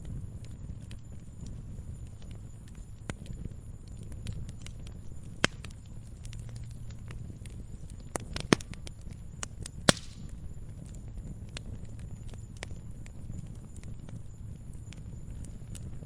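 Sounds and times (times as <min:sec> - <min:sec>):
campfire crackling: 0:00.0 - 0:16.0
loud fire snaps: 0:00.0 - 0:16.0.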